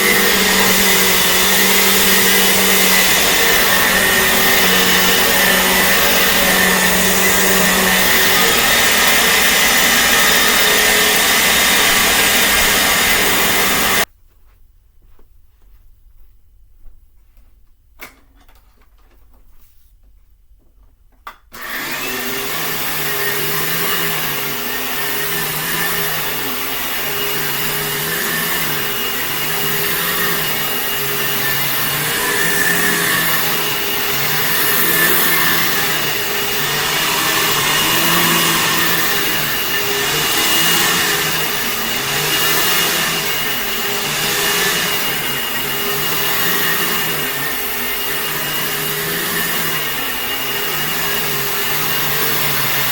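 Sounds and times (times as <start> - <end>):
vacuum cleaner running: 0.0 - 14.1, 21.5 - 52.9.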